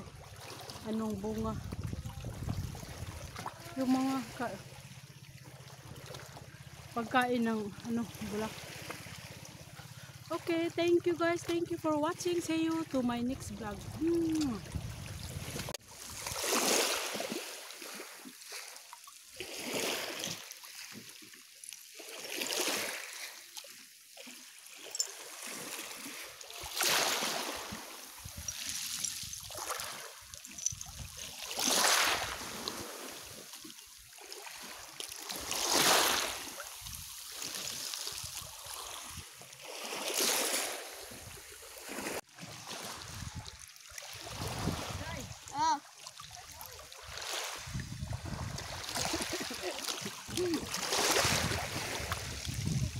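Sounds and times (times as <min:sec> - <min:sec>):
small waves washing over stones: 0:00.0 - 0:52.9.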